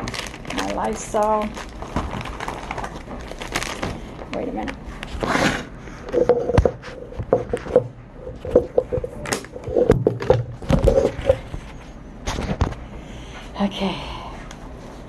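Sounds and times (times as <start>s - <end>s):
plastic bag rustling: 0.0s - 12.6s.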